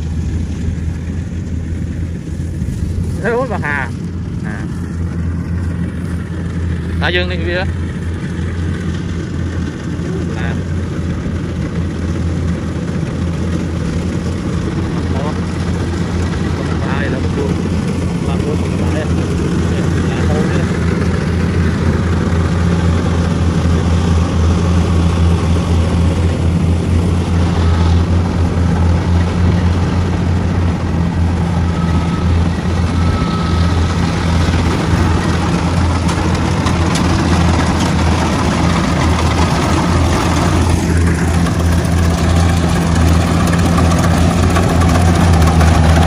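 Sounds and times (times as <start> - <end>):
combine harvester engine droning: 0.0 - 46.0.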